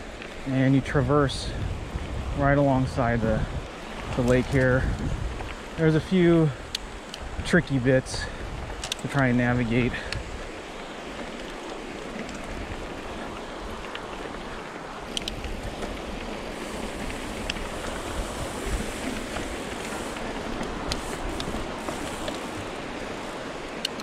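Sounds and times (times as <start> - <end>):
bike tyres rolling on rough trail: 0.0 - 24.0
wind over microphone: 0.0 - 24.0
bike clicks and rattles: 3.4 - 24.0.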